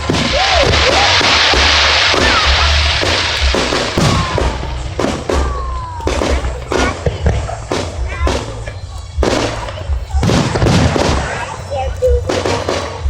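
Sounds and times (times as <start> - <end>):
dense hiss: 0.0 - 13.0
firework whistles gliding in pitch: 0.0 - 13.0
fireworks bangs and thuds: 0.0 - 13.0.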